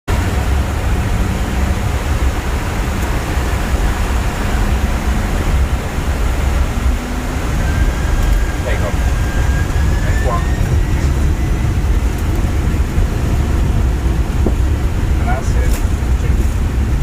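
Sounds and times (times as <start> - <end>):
airliner cabin noise in flight: 0.1 - 17.0.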